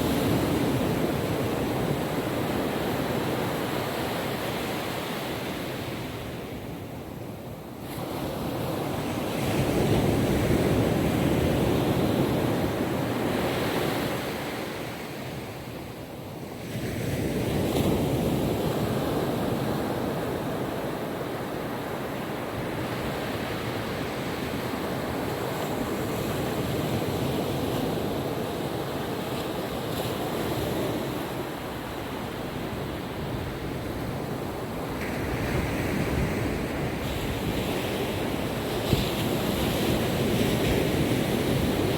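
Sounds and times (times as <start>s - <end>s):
ocean waves breaking on beach: 7.7s - 41.9s.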